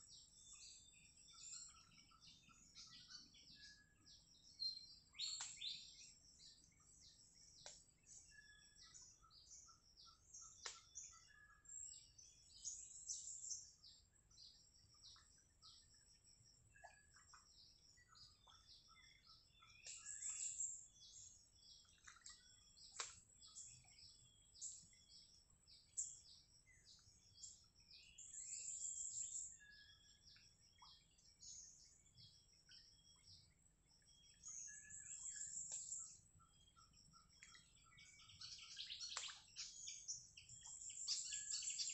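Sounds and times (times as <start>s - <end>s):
wild birds chirping and whistling: 0.0s - 41.9s.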